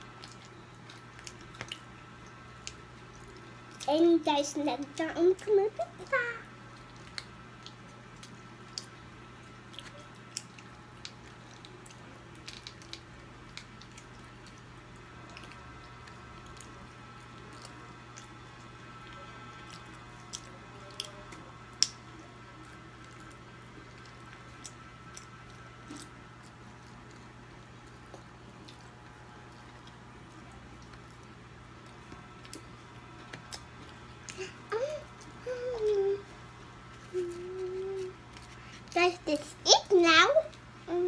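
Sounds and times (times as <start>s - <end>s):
child chewing food: 0.0s - 41.0s.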